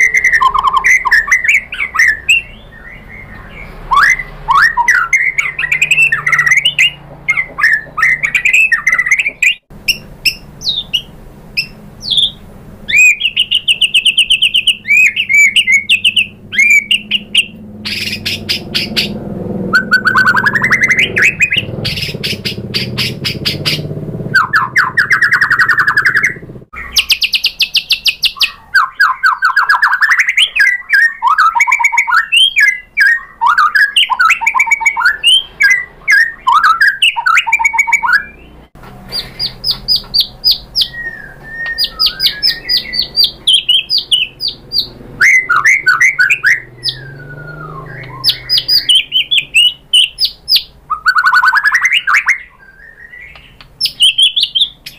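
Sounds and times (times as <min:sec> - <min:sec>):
songbird singing varied song: 0:00.0 - 0:54.9.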